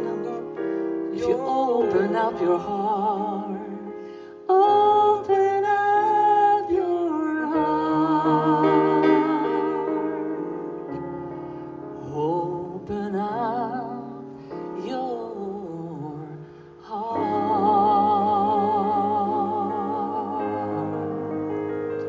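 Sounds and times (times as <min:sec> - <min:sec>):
keyboard accompaniment: 0:00.0 - 0:22.0
person singing with vibrato: 0:00.0 - 0:22.0.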